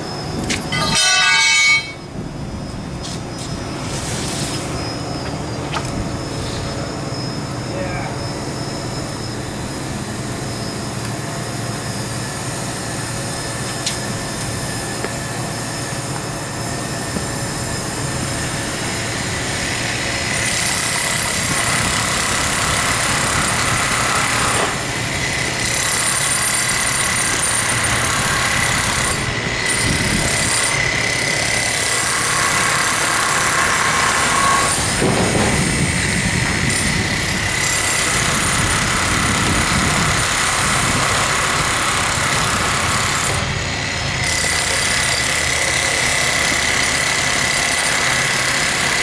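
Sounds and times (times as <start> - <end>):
steady high whine: 0.0 - 44.3
crane diesel engine and hydraulics: 0.0 - 49.0.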